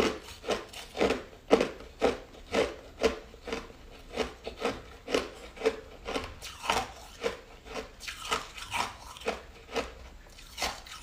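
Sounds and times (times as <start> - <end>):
ice crunched between teeth: 0.0 - 11.0.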